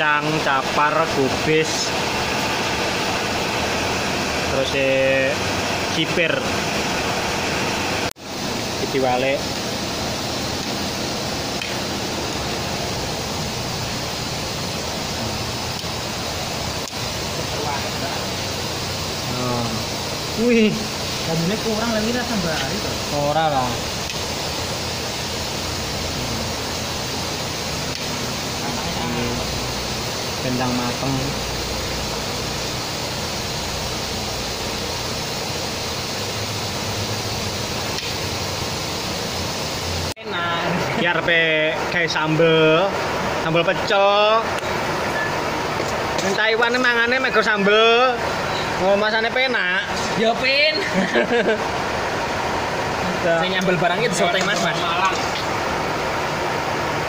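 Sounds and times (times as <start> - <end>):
pan of water boiling: 0.0 - 57.0
stove burner hissing: 0.0 - 57.0.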